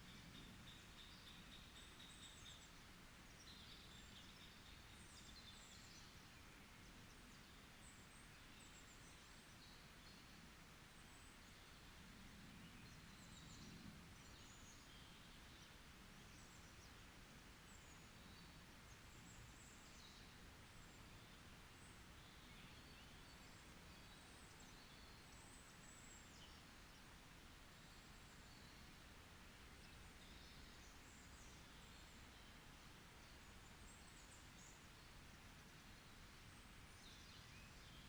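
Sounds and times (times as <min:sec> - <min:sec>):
faint bird chirps and trills: 0:00.0 - 0:38.0
low background hiss: 0:00.0 - 0:38.0.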